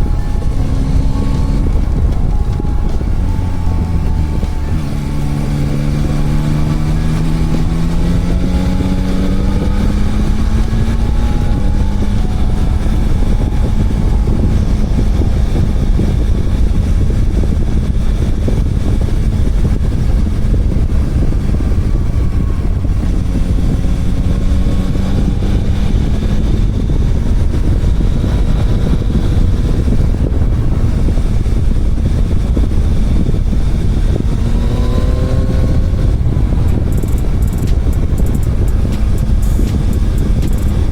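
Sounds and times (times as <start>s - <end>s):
motorcycle engine accelerating: 0.0s - 40.9s
wind noise on microphone: 0.0s - 40.9s.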